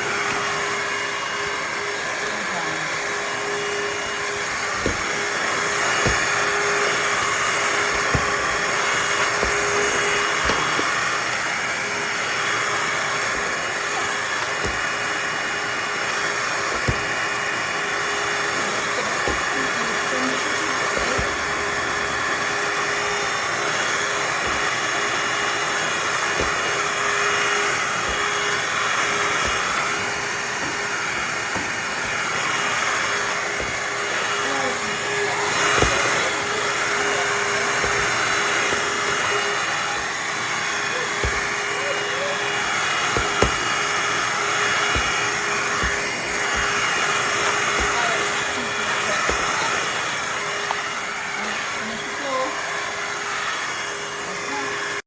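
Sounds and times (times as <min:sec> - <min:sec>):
wet-dry vacuum mop motor whine: 0:00.0 - 0:55.0.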